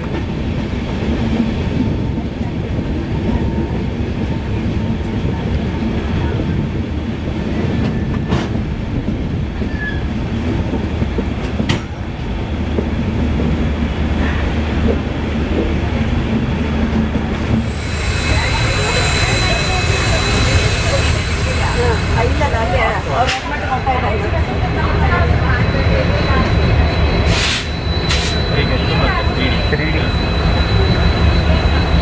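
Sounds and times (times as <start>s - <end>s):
wheels rumbling on rail: 0.0s - 32.0s
wind: 0.0s - 32.0s.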